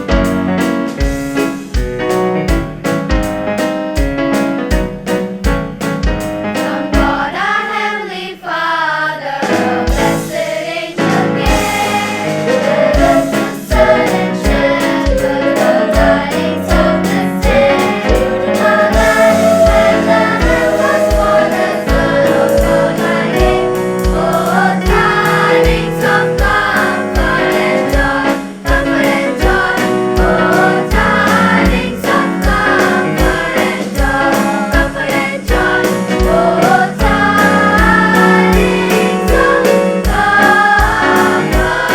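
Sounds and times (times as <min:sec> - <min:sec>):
steady drum beat: 0:00.0 - 0:07.4, 0:09.4 - 0:41.9
band accompaniment: 0:00.0 - 0:07.6, 0:09.3 - 0:41.9
choir singing: 0:06.6 - 0:41.9.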